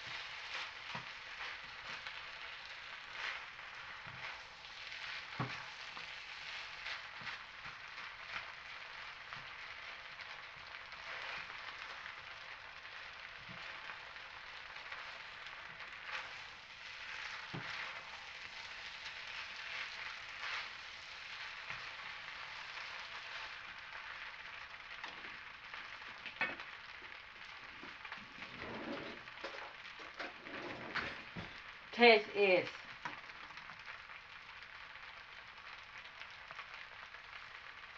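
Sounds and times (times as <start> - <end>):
rice sizzling in a hot pan: 0.0 - 37.9.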